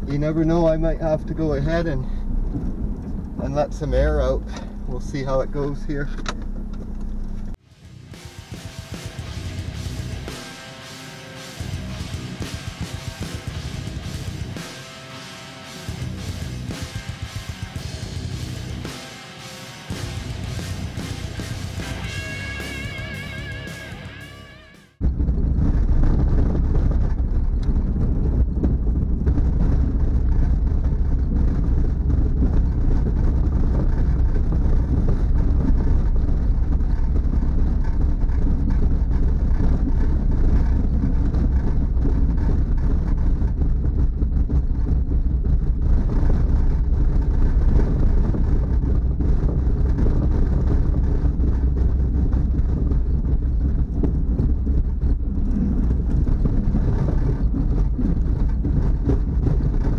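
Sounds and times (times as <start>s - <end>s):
snow plow rumbling through snow: 0.0s - 23.6s, 25.0s - 59.9s.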